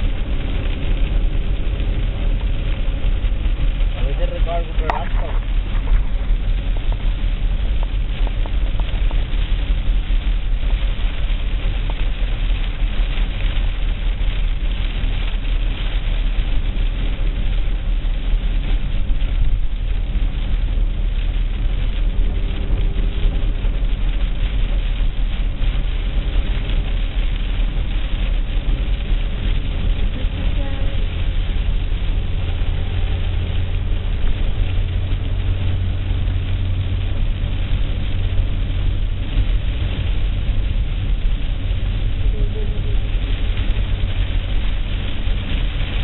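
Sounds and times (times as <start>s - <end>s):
car engine and tyres rumbling: 0.0s - 46.0s
crackling hiss: 0.0s - 46.0s.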